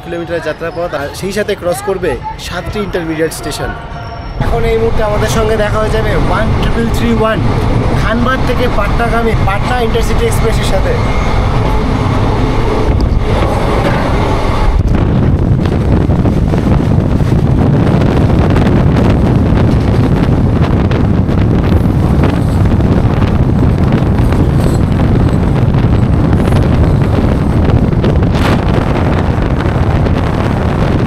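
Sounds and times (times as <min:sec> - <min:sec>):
train running rumble: 0:03.6 - 0:31.0
wind buffeting microphone: 0:03.8 - 0:31.0.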